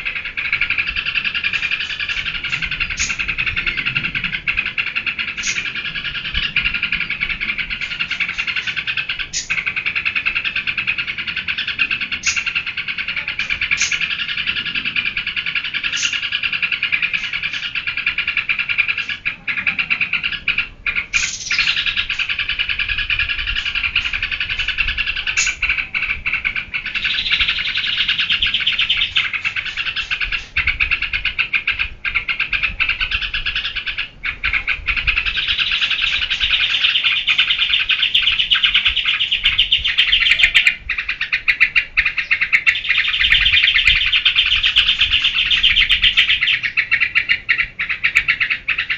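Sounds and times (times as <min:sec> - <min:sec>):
bird chattering song: 0:00.0 - 0:48.9.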